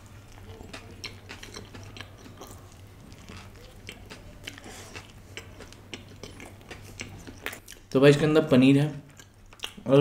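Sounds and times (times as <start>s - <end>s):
chewing with soft crunches: 0.0s - 8.0s, 9.0s - 10.0s.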